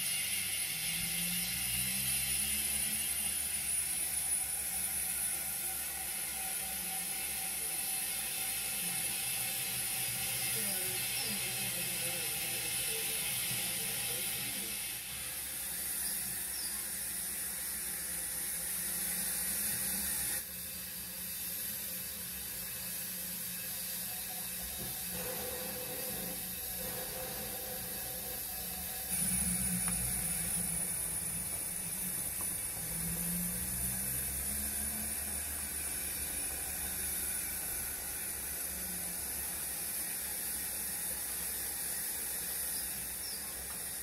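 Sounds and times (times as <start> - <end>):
model locomotive motor whirring: 0.0 - 44.0
steady hiss: 0.0 - 44.0.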